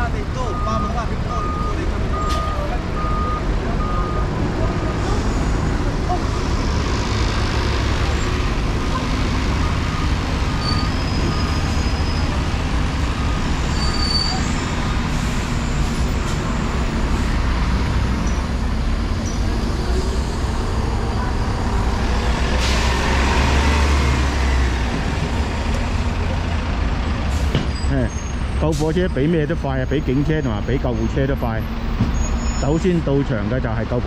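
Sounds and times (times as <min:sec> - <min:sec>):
bus engine rumbling: 0:00.0 - 0:34.0
street traffic: 0:00.0 - 0:34.0.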